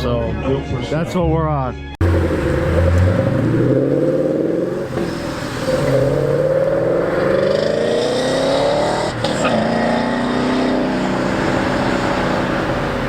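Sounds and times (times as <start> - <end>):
car engine accelerating: 2.0 - 13.0.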